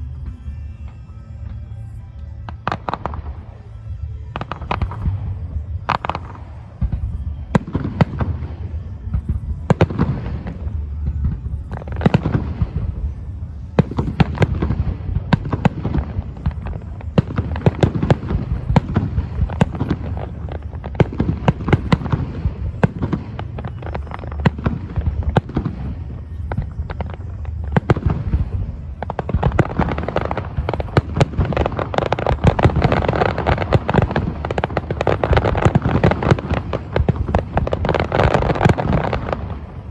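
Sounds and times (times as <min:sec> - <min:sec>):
dense firework crackling: 0:00.0 - 0:39.9.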